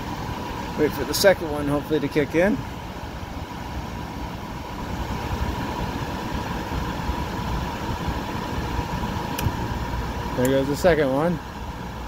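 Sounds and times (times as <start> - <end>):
air conditioner humming: 0.0 - 12.0
steady whine: 0.0 - 12.0.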